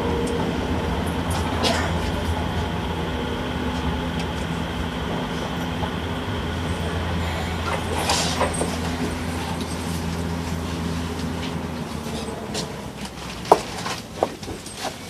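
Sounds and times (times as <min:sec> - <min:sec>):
steady low hum: 0:00.0 - 0:14.6
train car running slowly: 0:00.0 - 0:15.0.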